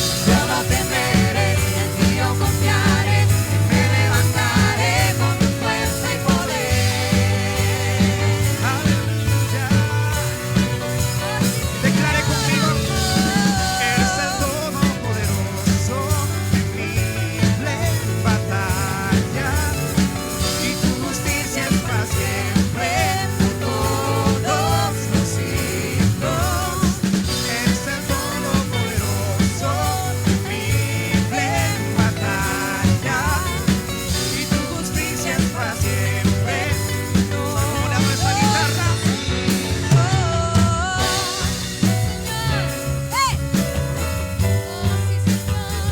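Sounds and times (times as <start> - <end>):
drum kit beat: 0.0 - 45.9
live band playing: 0.0 - 45.9.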